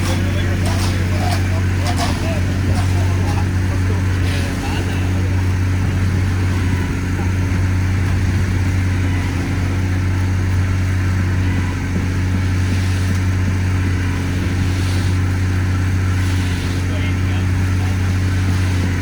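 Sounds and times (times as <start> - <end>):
diesel truck engine running: 0.0 - 19.0.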